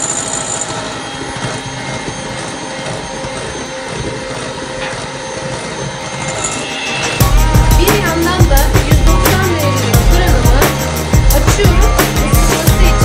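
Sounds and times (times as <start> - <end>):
electric hand mixer whisking: 0.0 - 13.0.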